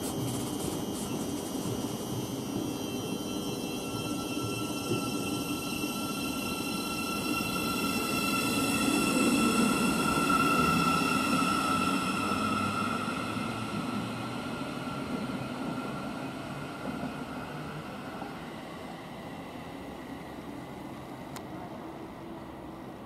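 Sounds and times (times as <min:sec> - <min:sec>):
electric train whine: 0:00.0 - 0:23.0
wheels rumbling on rail: 0:00.0 - 0:23.0.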